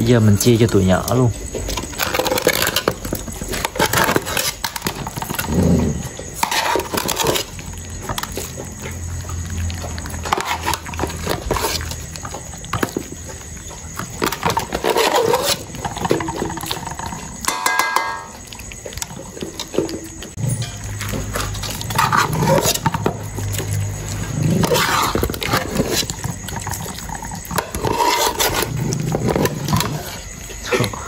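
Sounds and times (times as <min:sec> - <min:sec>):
metal bowls clinking on concrete: 0:00.0 - 0:31.0
puppies chewing and lapping: 0:00.0 - 0:31.0.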